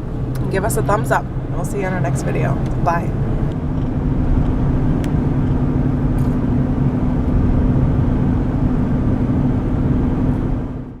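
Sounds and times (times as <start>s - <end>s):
car interior engine and road rumble: 0.0s - 11.0s.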